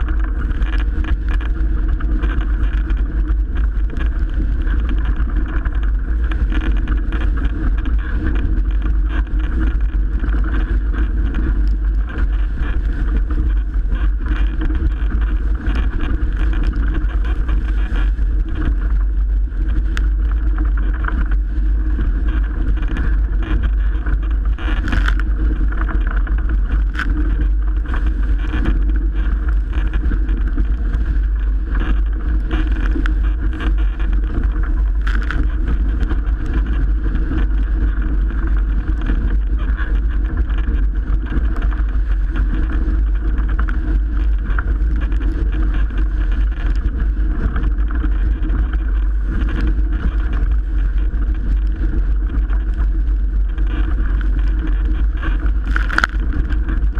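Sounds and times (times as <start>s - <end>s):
water rushing along boat hull: 0.0s - 56.9s
wind buffeting microphone: 0.0s - 56.9s.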